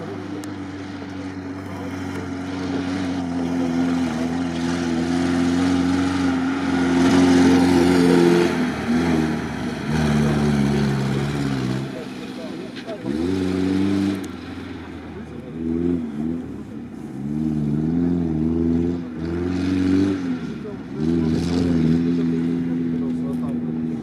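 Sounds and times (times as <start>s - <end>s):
off-road vehicle engine under load: 0.0s - 24.0s.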